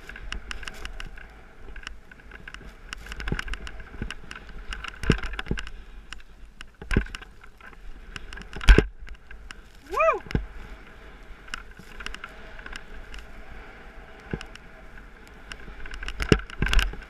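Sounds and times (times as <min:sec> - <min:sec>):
ski clicks and knocks: 0:00.0 - 0:17.0
wind: 0:00.0 - 0:17.0.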